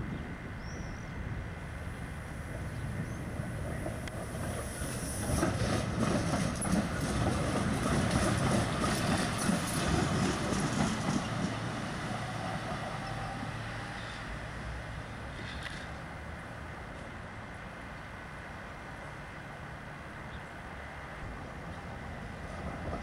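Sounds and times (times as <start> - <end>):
tram passing on track: 0.0 - 23.0.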